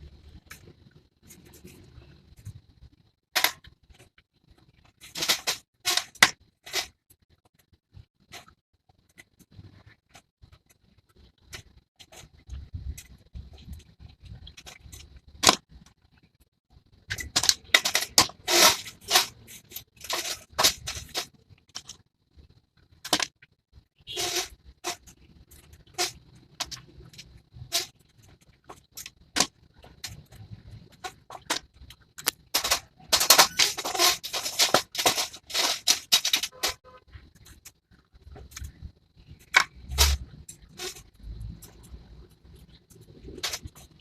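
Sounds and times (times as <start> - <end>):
clicks and rattles of hand work: 3.3 - 22.1, 22.8 - 44.0.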